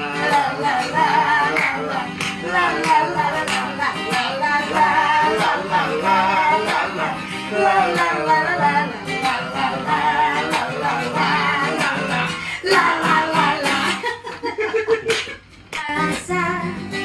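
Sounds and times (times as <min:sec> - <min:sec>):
acoustic guitar strumming: 0:00.0 - 0:14.2
woman and man singing: 0:00.0 - 0:17.0.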